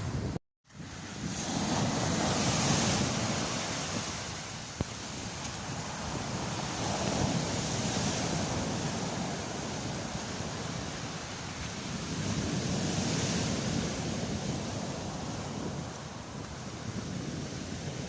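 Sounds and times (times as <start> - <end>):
waves rushing in: 0.0 - 18.0
surf breaking on pebble beach: 0.9 - 18.0.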